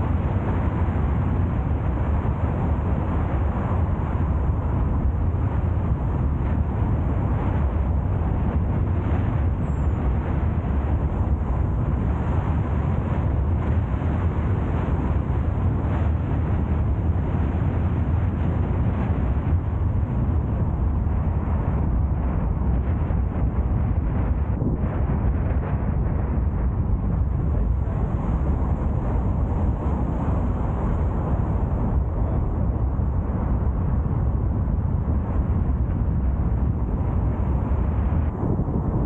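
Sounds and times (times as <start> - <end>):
car road and wind noise: 0.0 - 39.0.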